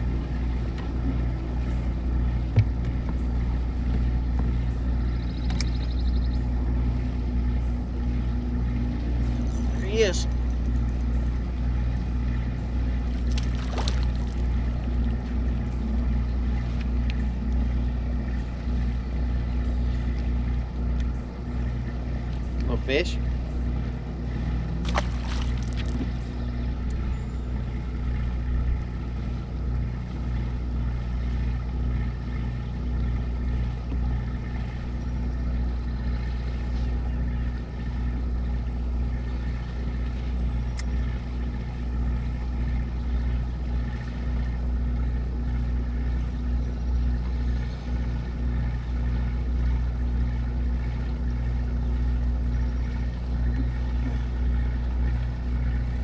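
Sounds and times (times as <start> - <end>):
generator engine hum: 0.0 - 56.0.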